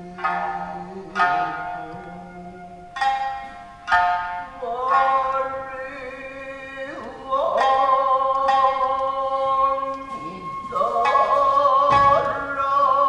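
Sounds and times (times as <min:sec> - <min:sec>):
person singing long note: 0:00.0 - 0:03.6, 0:04.4 - 0:13.0
shamisen plucking: 0:00.0 - 0:13.0.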